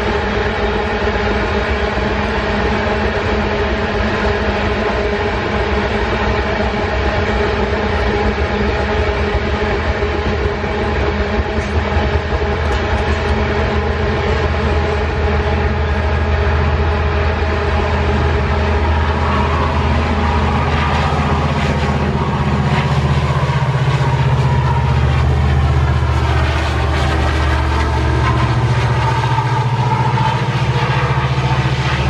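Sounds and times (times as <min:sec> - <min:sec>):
diesel locomotive engine: 0:00.0 - 0:32.0
freight train wheels on rails: 0:00.0 - 0:32.0.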